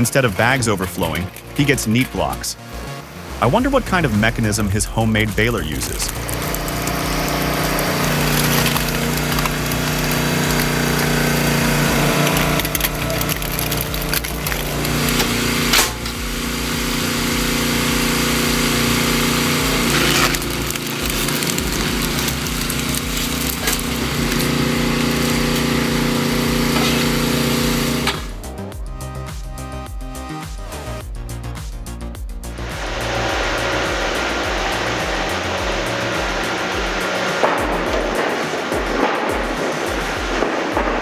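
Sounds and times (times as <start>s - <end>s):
heavy machinery running: 0.0s - 28.8s, 32.5s - 41.0s.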